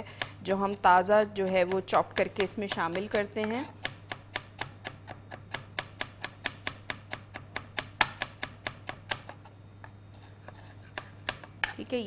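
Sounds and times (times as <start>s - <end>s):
knife chopping on wooden board: 0.2s - 9.4s, 10.4s - 11.8s.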